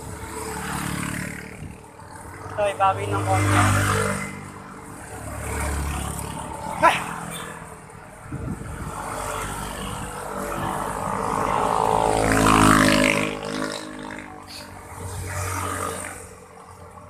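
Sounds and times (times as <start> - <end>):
motorcycle engines passing: 0.0 - 17.0.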